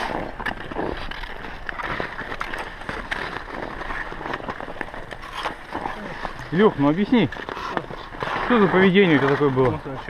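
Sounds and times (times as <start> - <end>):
ice skates scraping: 0.0 - 10.0.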